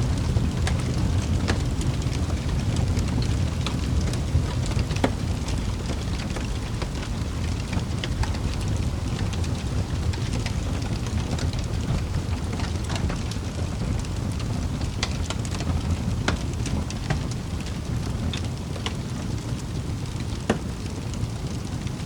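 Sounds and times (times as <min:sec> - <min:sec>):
fire burning in fireplace: 0:00.0 - 0:22.0.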